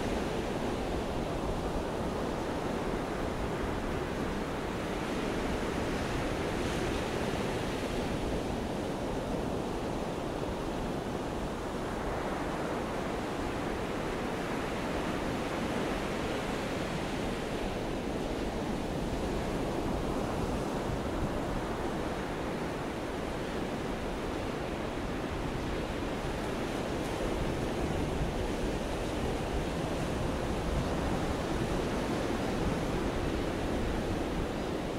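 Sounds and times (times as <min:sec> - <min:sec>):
ocean surf breaking on beach: 0:00.0 - 0:34.9.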